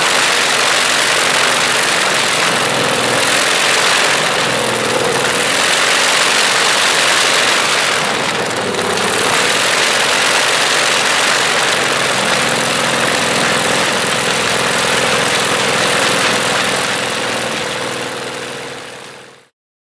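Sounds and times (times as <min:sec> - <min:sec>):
radial aero engine running: 0:00.0 - 0:19.4.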